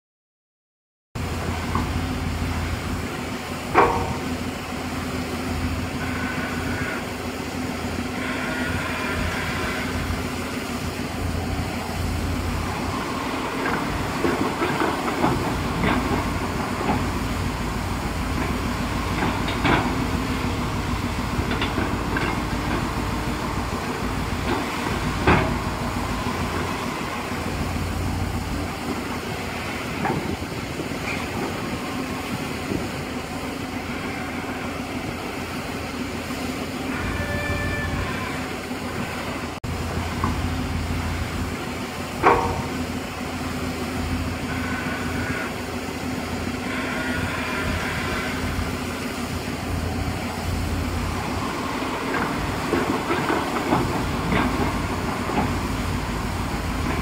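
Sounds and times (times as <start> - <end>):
excavator diesel engine running: 1.2 - 57.0.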